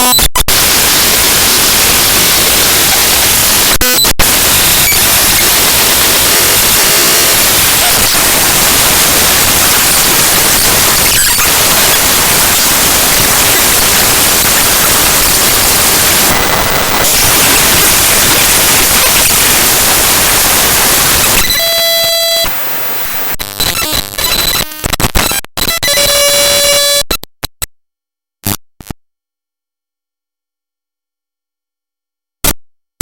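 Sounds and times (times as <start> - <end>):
buzzy high tones and stuttering: 0.0 - 27.0
harsh static-like noise: 0.0 - 27.6.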